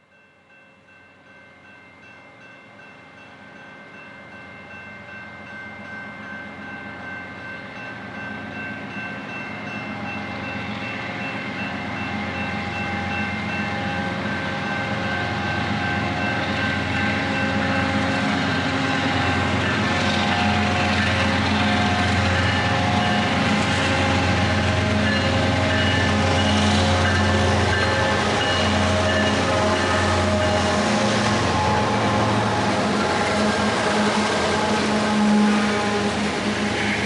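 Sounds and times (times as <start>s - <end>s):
diesel locomotive engine hum: 4.3s - 37.0s.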